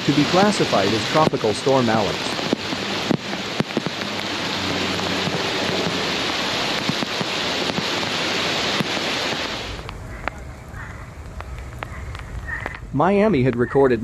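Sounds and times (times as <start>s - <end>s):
heavy rain hissing: 0.0s - 14.0s
raindrops tapping surfaces: 0.0s - 14.0s.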